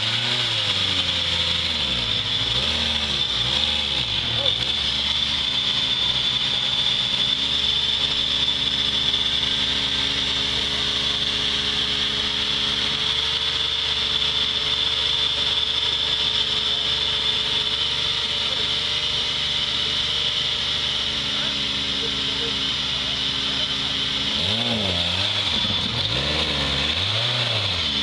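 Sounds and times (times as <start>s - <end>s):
high-pitched whine: 0.0s - 28.0s
off-road vehicle engine at low revs: 0.0s - 28.0s.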